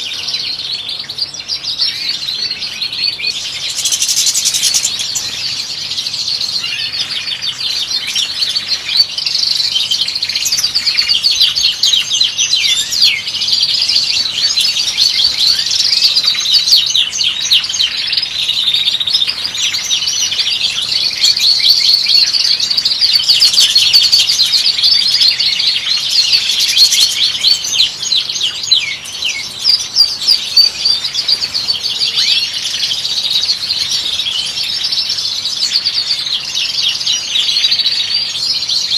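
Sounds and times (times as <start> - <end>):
finches twittering and trilling: 0.0 - 38.9.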